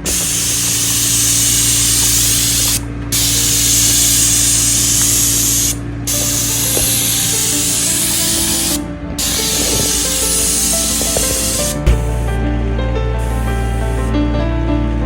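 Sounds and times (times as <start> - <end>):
paint sprayer hissing: 0.0 - 12.6, 13.2 - 14.2.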